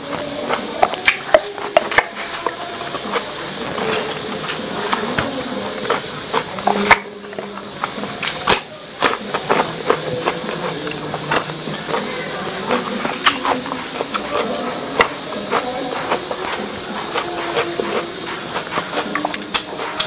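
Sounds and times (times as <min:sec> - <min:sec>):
person chewing noodles: 0:00.0 - 0:20.0.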